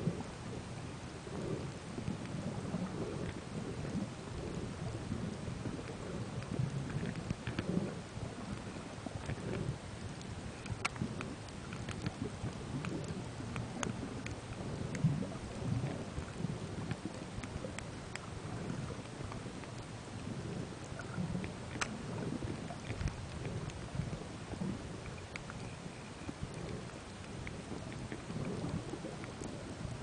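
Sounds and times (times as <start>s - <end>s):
underwater rumble of moving water: 0.0s - 30.0s
faint clicks: 1.6s - 7.7s, 8.4s - 30.0s.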